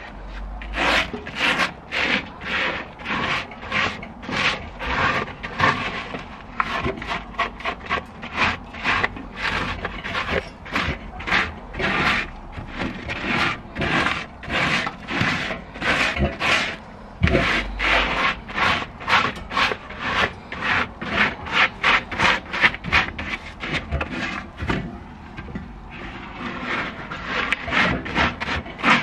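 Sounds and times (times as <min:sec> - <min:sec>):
brush scrubbing metal bowl: 0:00.0 - 0:29.0.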